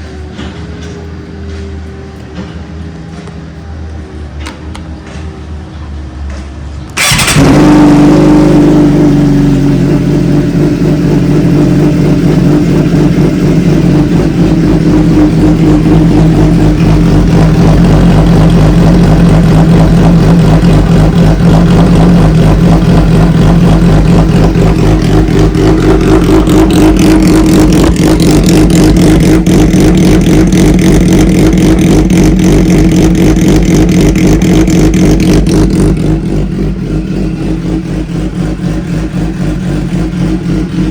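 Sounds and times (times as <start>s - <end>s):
motorcycle engine running loudly: 7.0s - 40.9s.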